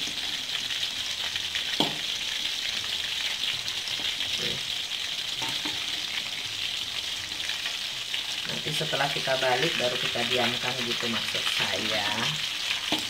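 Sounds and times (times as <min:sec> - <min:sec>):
shrimp frying in hot oil: 0:00.0 - 0:13.0.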